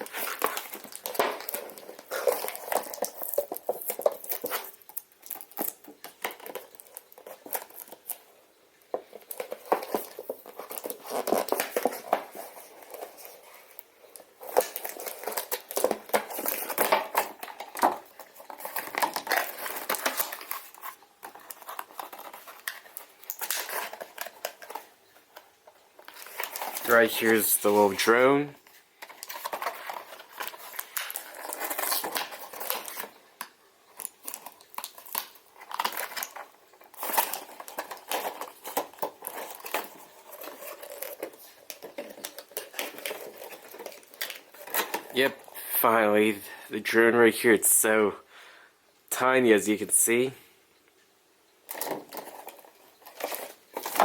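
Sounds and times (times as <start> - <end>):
packaging crinkling and rustling: 0.0 - 45.9, 51.6 - 54.0.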